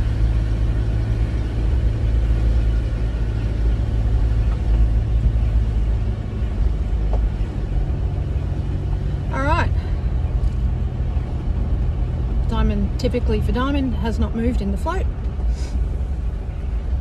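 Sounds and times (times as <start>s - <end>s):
car rumble from inside cabin: 0.0s - 17.0s.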